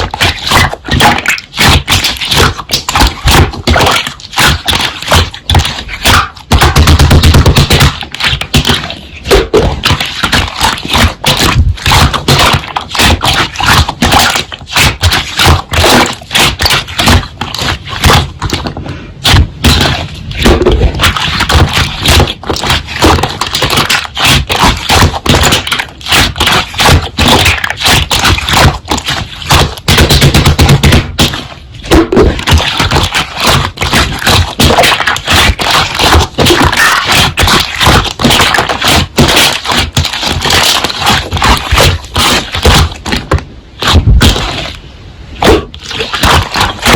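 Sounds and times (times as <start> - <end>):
slime squishing with sticky pops: 0.0 - 44.8, 45.4 - 46.9.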